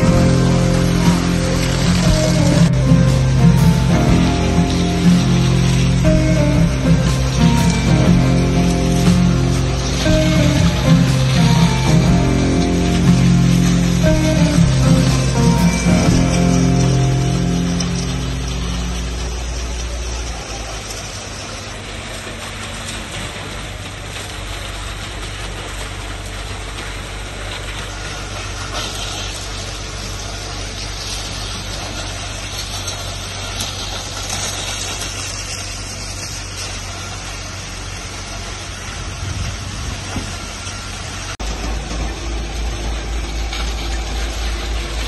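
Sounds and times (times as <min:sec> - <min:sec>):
pump truck engine running: 0:00.0 - 0:45.0
wet concrete gushing from hose: 0:00.0 - 0:45.0.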